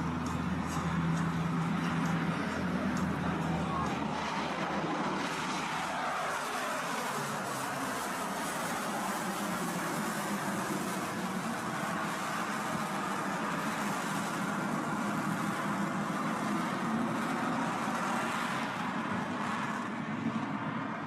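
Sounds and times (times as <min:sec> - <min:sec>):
rushing aircraft noise: 0:00.0 - 0:21.0.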